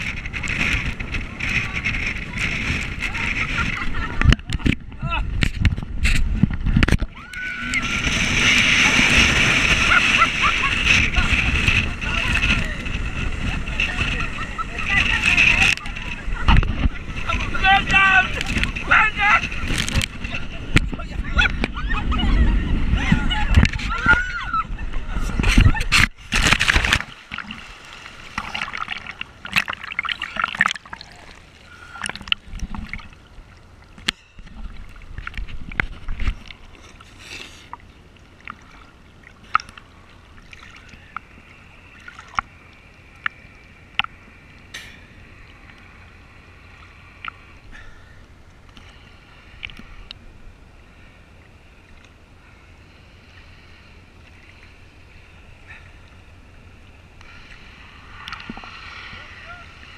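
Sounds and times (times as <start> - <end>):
seawater splashing: 0.0 - 59.9.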